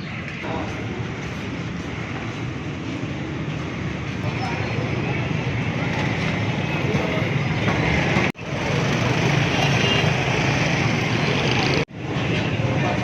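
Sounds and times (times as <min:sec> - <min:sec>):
urban din: 0:00.0 - 0:13.0
vehicles passing: 0:00.0 - 0:13.0.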